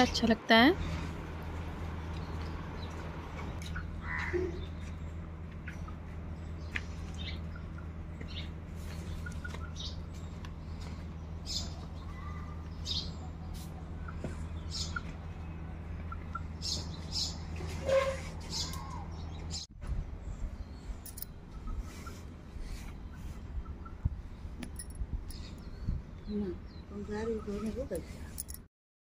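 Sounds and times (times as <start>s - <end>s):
birds chirping: 0.0s - 17.7s, 18.5s - 28.6s
steady low hum: 0.0s - 17.8s, 18.4s - 28.7s.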